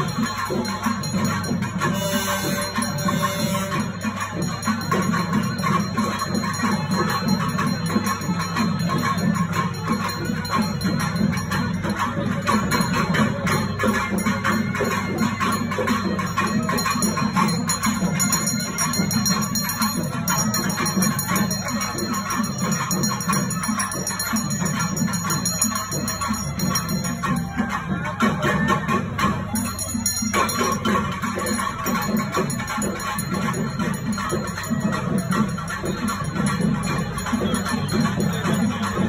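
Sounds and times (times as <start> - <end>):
music with jingling bells: 0.0 - 39.0.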